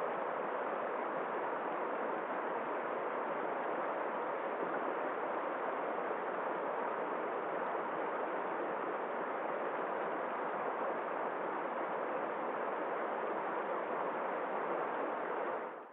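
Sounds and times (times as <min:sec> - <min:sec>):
flowing water rushing: 0:00.0 - 0:15.7.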